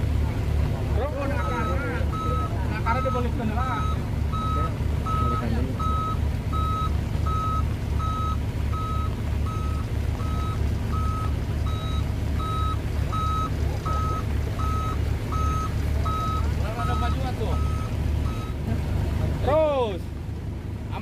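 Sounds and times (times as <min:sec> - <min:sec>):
diesel truck engine rumble: 0:00.0 - 0:21.0
reversing alarm beeping: 0:01.1 - 0:18.6.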